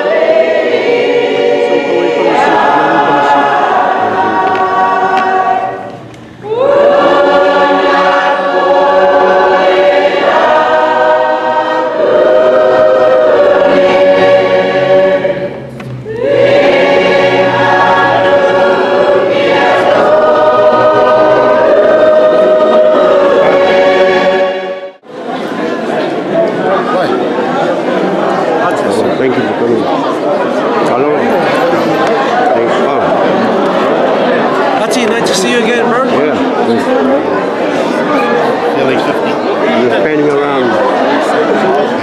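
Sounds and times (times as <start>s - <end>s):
church choir singing a hymn: 0.0s - 25.0s, 25.6s - 42.0s.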